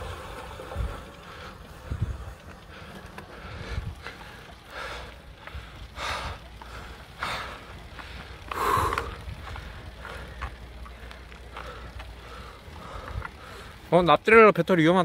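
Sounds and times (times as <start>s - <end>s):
cyclist heavy breathing: 0.0s - 14.1s
wind and road noise: 0.0s - 15.0s.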